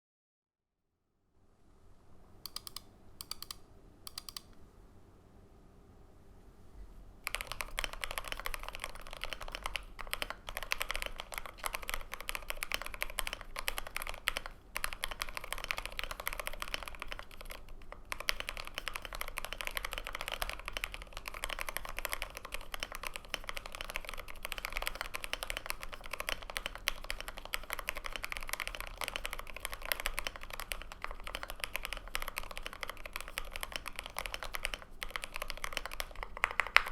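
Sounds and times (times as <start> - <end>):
mechanical keyboard typing: 2.5 - 4.5, 7.2 - 36.9.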